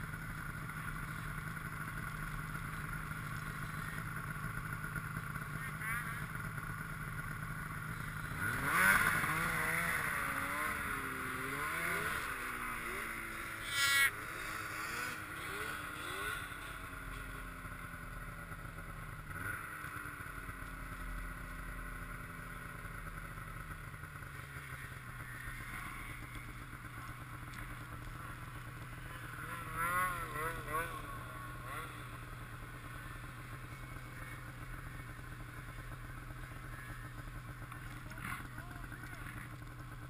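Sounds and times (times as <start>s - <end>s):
snowmobile engine revving: 0.0s - 23.5s, 24.1s - 40.0s
snowmobile engine idling: 0.0s - 40.0s.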